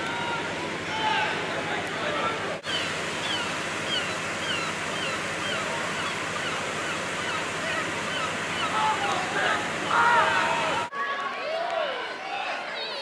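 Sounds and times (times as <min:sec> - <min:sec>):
steady outdoor rushing noise: 0:00.0 - 0:11.0.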